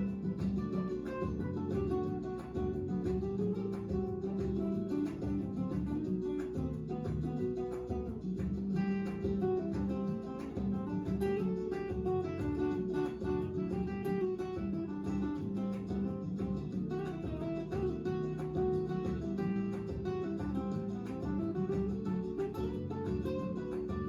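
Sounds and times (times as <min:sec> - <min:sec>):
acoustic guitar: 0:00.0 - 0:24.0.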